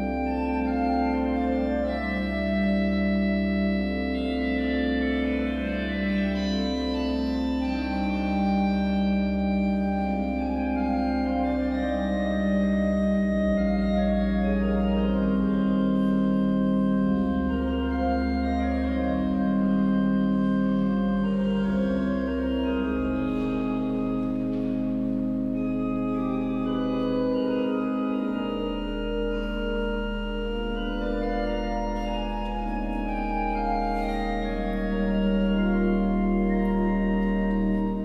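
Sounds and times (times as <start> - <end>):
organ music: 0.0 - 38.0.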